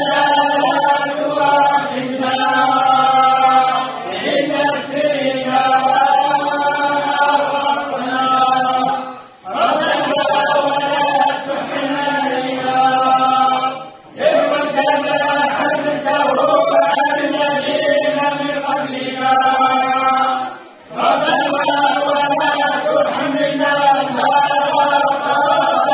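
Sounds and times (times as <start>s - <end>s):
men chanting in unison: 0.0s - 25.9s.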